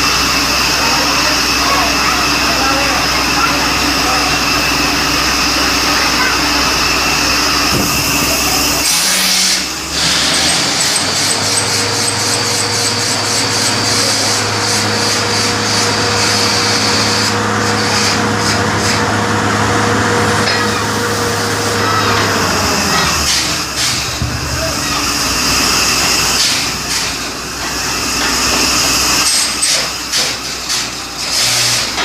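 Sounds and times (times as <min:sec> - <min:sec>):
drilling rig running: 0:00.0 - 0:32.0.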